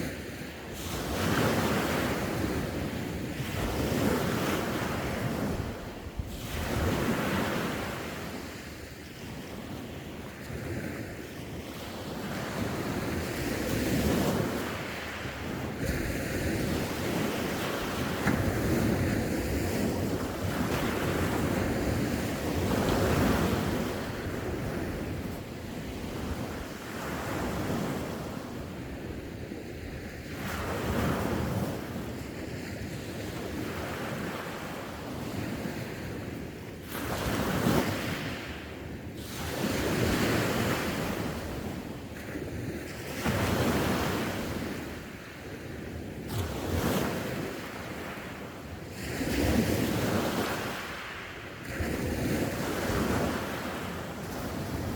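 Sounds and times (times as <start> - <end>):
sea waves breaking on shore: 0.0 - 54.9
wind rumbling on microphone: 0.0 - 54.9.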